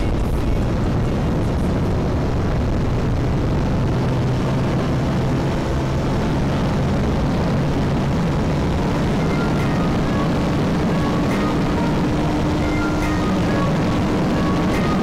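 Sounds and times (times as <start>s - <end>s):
motorcycle engine drone: 0.0s - 15.0s
wind rush on microphone: 0.0s - 15.0s.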